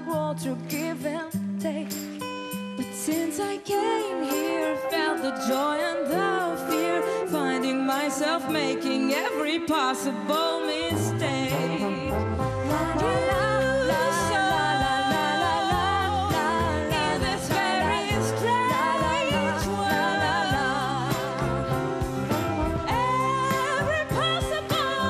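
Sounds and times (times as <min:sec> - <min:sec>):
two women singing a duet: 0:00.0 - 0:02.2, 0:02.8 - 0:21.7, 0:22.8 - 0:25.0
piano drums and trombone: 0:04.1 - 0:25.0.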